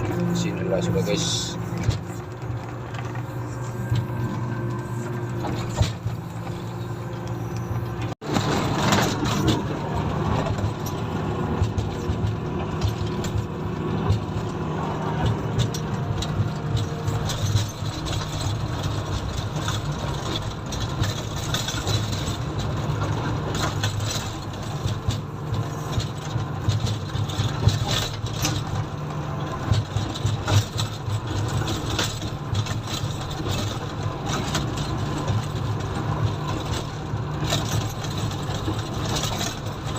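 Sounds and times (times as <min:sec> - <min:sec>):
diesel engine running: 0:00.0 - 0:39.9
rattles and clicks: 0:00.0 - 0:39.9.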